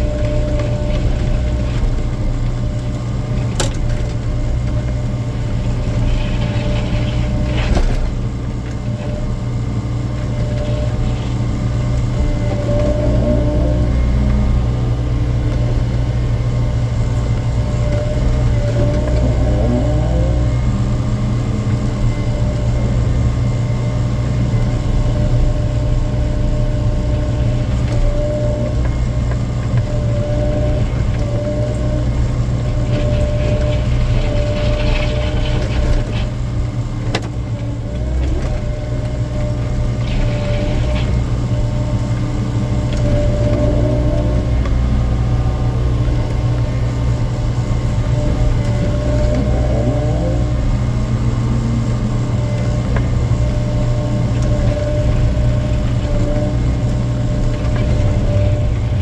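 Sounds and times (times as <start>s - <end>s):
excavator diesel engine running: 0.0s - 59.0s
hydraulic whine: 0.0s - 59.0s.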